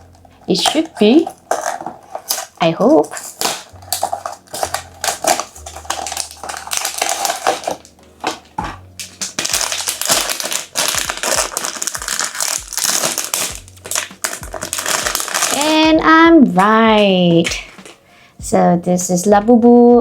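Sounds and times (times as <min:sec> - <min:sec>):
cardboard and wrapper crinkling: 0:00.0 - 0:18.0.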